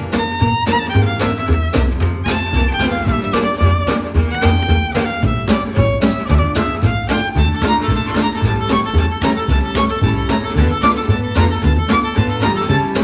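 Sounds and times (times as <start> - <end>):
beat and bass: 0.0 - 13.0
violin melody: 0.0 - 13.0.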